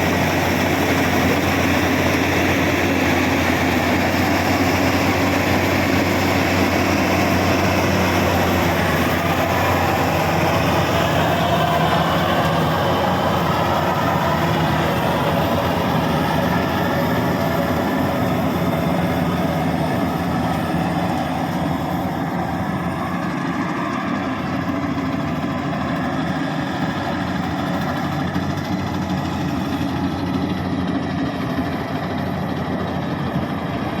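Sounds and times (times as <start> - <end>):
combine harvester running: 0.0 - 34.0.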